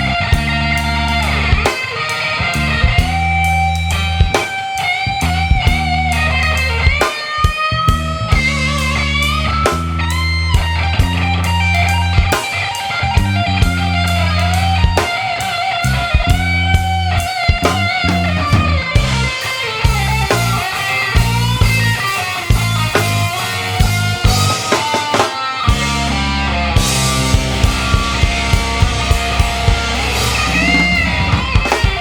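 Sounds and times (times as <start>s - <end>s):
bass: 0.0s - 32.0s
drums: 0.0s - 32.0s
electric blues guitar solo: 0.0s - 32.0s.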